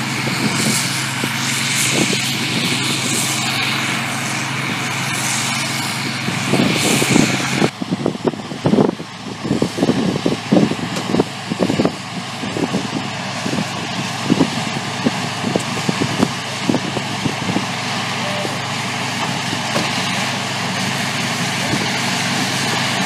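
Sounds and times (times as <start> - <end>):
hiss: 0.0 - 7.7, 9.8 - 23.0
machinery engine whining: 0.0 - 23.0.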